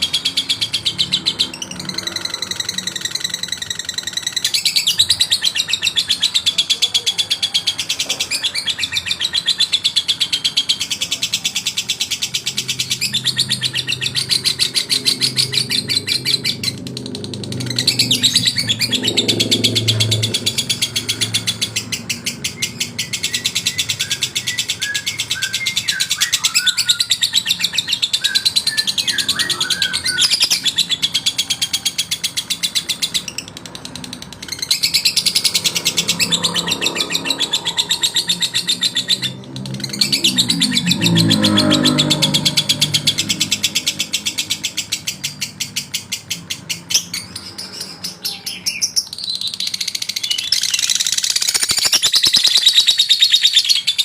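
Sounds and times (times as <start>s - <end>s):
lovebird chattering song: 0.0s - 54.0s.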